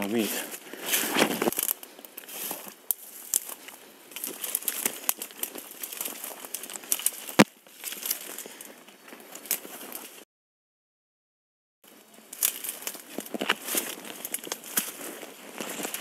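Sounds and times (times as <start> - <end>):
footsteps crunching dry leaves: 0.0 - 10.2, 11.9 - 16.0
twigs rustling and snapping: 0.0 - 10.2, 11.9 - 16.0.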